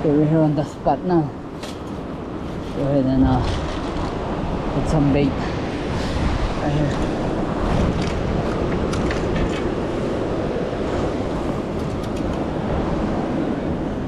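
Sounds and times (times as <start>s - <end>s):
wind buffeting microphone: 0.0s - 14.0s
surf washing against rocks: 2.0s - 14.0s.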